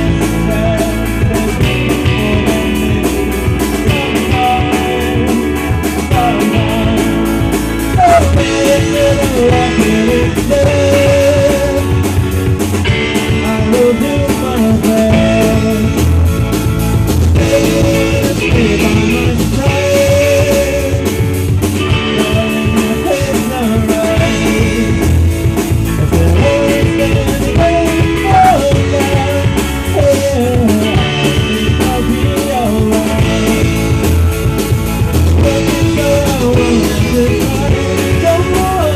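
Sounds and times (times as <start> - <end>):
drums: 0.0 - 38.9
guitar with bent notes: 0.0 - 38.9
rock band playing live: 0.0 - 38.9.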